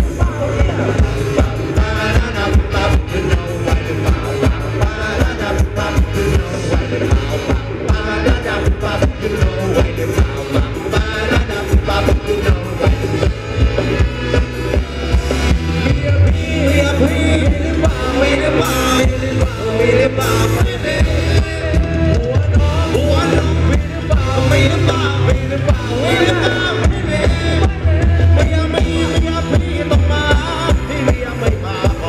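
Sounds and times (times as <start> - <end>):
person singing: 0.0 - 14.8, 15.4 - 32.0.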